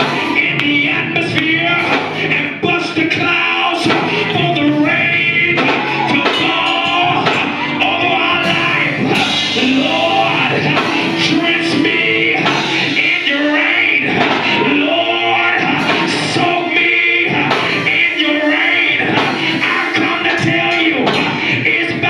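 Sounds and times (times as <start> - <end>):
band with percussive hits: 0.0 - 22.0
gospel singing voices: 0.0 - 22.0.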